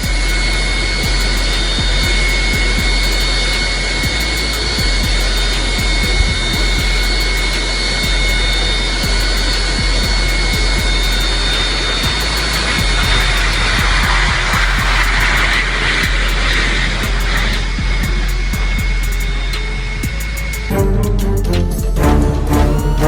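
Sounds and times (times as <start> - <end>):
jet engines roaring: 0.0 - 21.6
high turbine whine: 0.0 - 23.0.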